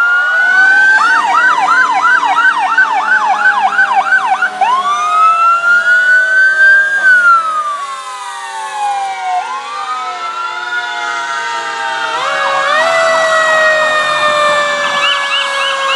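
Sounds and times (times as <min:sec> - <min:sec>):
fire truck siren: 0:00.0 - 0:15.9.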